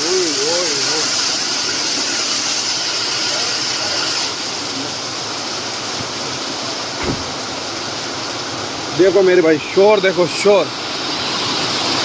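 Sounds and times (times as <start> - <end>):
rain and hail drumming on roof: 0.0 - 12.0.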